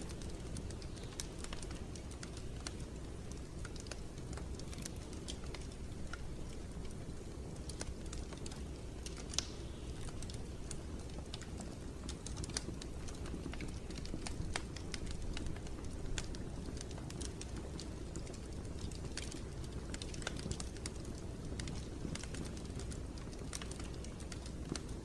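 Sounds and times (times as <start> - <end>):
low rumble of flames: 0.0 - 25.0
wood fire crackling: 0.0 - 25.0.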